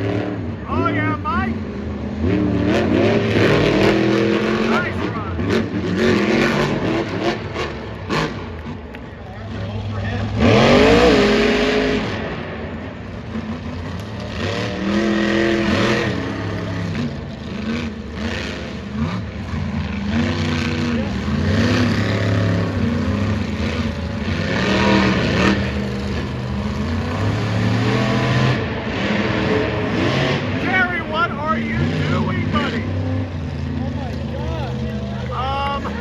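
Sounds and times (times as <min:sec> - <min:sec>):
monster truck engines revving: 0:00.0 - 0:36.0.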